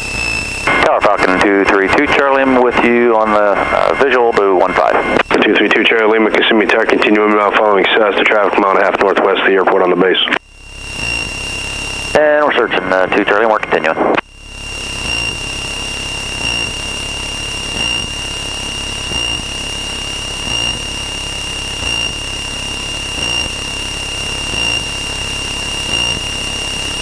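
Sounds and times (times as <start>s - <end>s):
high steady whine: 0.0s - 27.0s.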